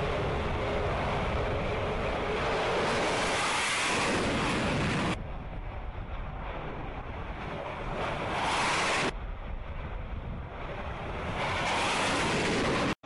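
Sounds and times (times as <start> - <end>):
jet launching: 0.0 - 5.2, 6.5 - 9.8, 10.6 - 13.0
jet engines rushing: 0.0 - 13.0
wind on microphone: 0.0 - 13.0.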